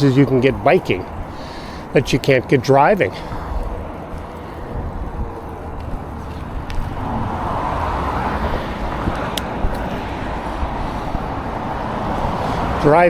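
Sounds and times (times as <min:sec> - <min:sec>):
vehicle road noise rumble: 0:00.0 - 0:13.0.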